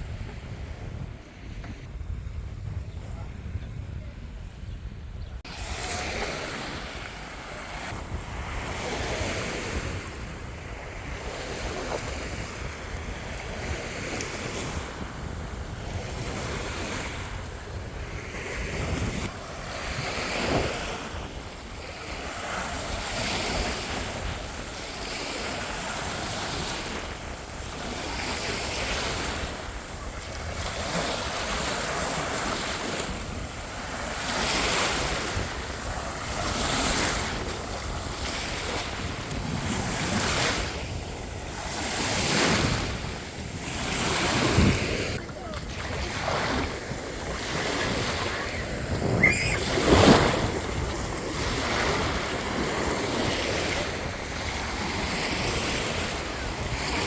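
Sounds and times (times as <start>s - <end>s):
wind buffeting microphone: 0.0s - 57.0s
surf washing onto beach: 5.5s - 57.0s.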